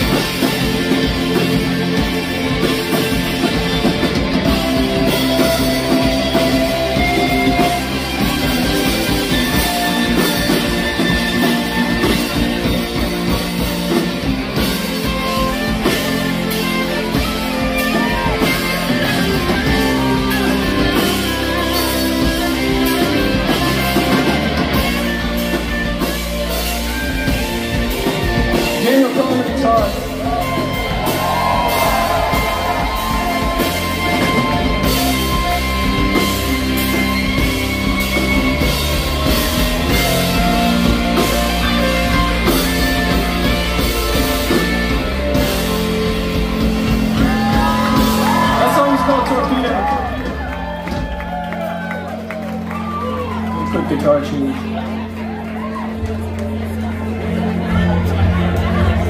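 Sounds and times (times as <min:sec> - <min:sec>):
bass guitar: 0:00.0 - 0:59.0
drum kit: 0:00.0 - 0:59.0
electric guitars: 0:00.0 - 0:59.0
live rock band: 0:00.0 - 0:59.0.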